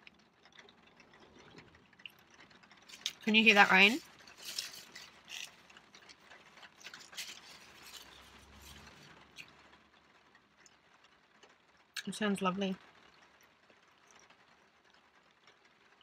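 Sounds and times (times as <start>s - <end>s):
light rain on a car: 0.0s - 16.0s.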